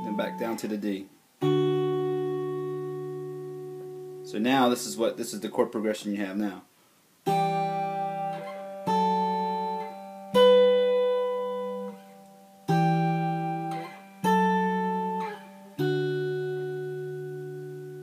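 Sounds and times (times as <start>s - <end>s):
fingerpicked guitar chords: 0.0s - 5.3s, 7.2s - 18.0s.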